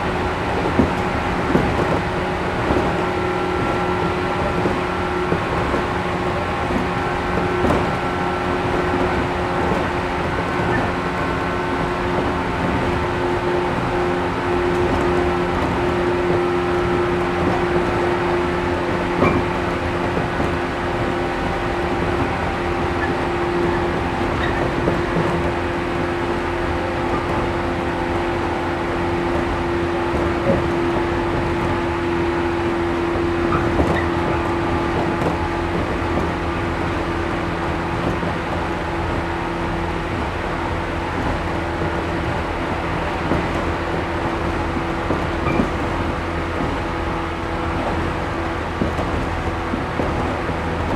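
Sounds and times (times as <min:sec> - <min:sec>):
electric train hum: 0:00.0 - 0:50.9
train wheels rumbling on rail: 0:00.0 - 0:50.9.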